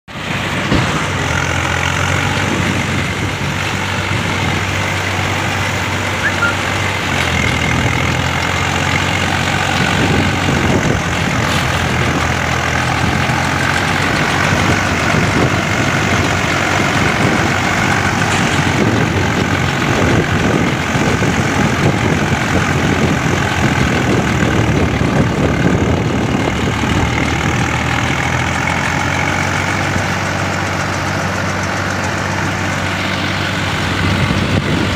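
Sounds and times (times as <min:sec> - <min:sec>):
baler machinery running: 0:00.1 - 0:34.9
tractor diesel engine running: 0:00.1 - 0:34.9.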